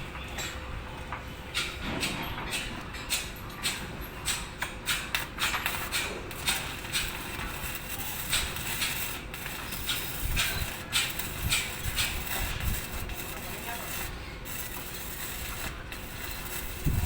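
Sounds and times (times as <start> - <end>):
sharp welding pops: 2.6 - 17.0
welding arc crackling and sizzling: 3.2 - 17.0.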